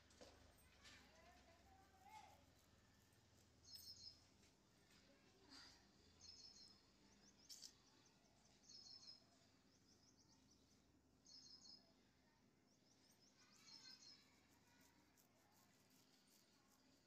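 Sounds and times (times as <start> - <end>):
faint bird chirping: 0.1 - 17.0.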